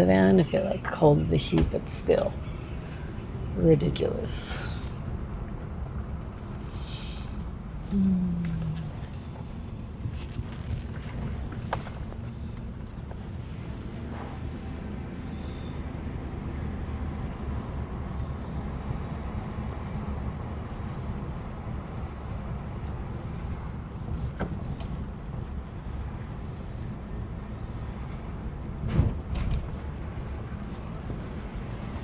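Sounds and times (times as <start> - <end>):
van engine and road rumble: 0.0 - 32.0.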